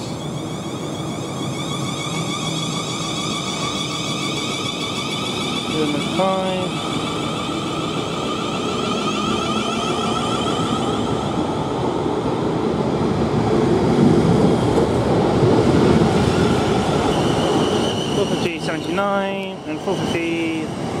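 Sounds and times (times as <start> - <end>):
electric train whine: 0.0 - 21.0
wheels rumbling on rail: 0.0 - 21.0.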